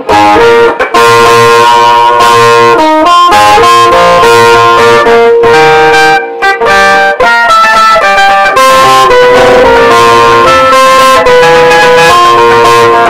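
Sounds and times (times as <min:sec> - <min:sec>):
electric guitar lead line: 0:00.0 - 0:13.0.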